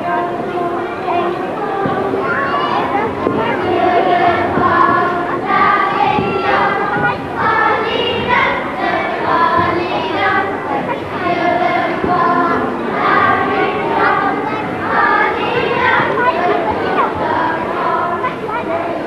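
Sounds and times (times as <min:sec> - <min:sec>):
children singing in unison: 0:00.0 - 0:19.0.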